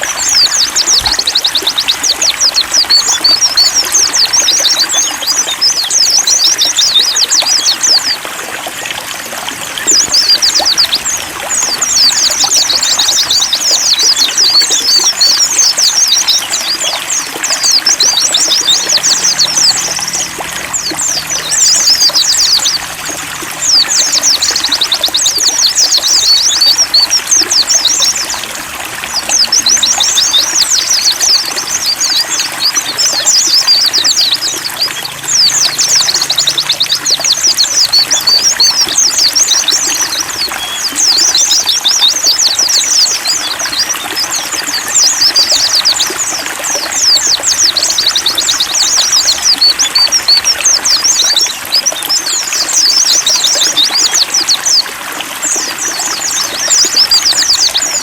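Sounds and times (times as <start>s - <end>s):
birds twittering: 0.0s - 58.0s
water trickling: 0.0s - 58.0s.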